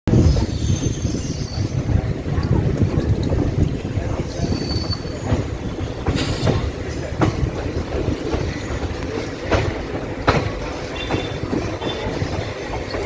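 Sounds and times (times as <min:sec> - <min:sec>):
train rumble: 0:00.1 - 0:13.0
train wheels clacking on rails: 0:00.1 - 0:13.0.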